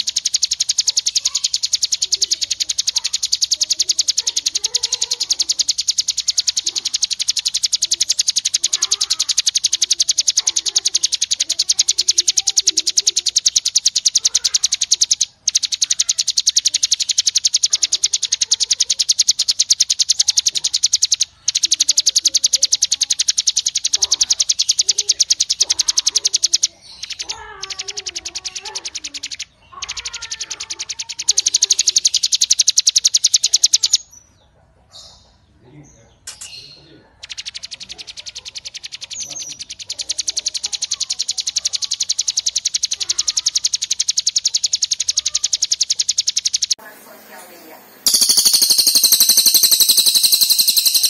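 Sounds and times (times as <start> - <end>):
whistled bird notes: 0.0 - 34.3, 36.2 - 46.8, 48.0 - 51.0
songbird rattling trill: 0.0 - 34.4, 36.2 - 51.0
bird warbling: 0.0 - 35.4, 36.2 - 51.0.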